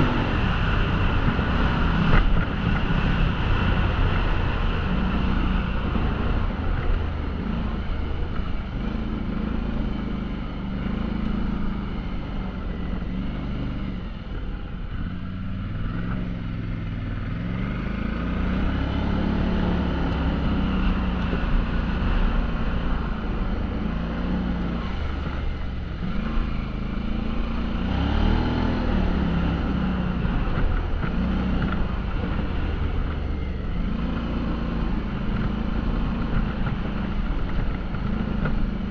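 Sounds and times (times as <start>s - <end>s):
rushing wind: 0.0s - 38.9s.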